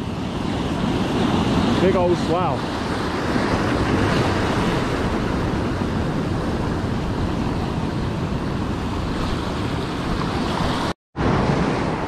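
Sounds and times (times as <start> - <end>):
rough surf breaking on boulders: 0.0 - 12.0.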